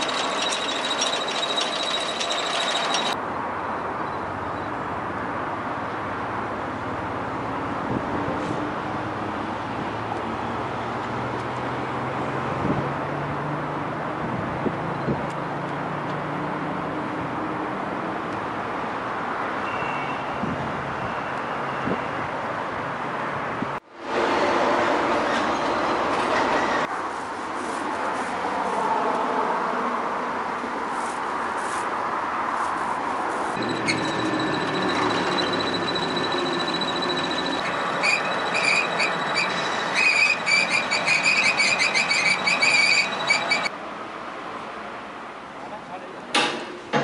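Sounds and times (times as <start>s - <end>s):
street traffic rushing: 0.0s - 47.0s.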